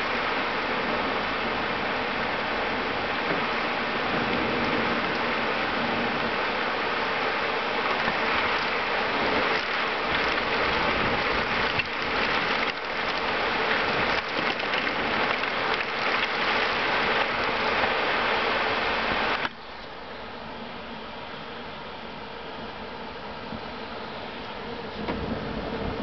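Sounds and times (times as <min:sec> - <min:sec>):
heavy rain falling: 0:00.0 - 0:19.5, 0:24.6 - 0:26.0.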